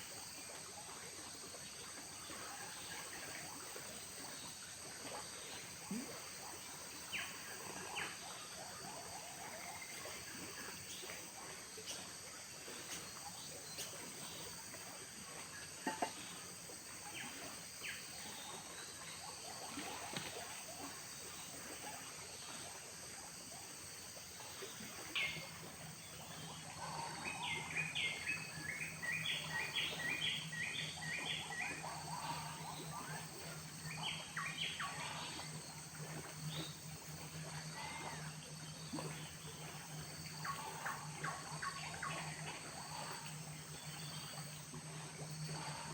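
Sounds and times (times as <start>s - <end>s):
high insect drone: 0.0s - 45.9s
low steady hum: 0.0s - 45.9s.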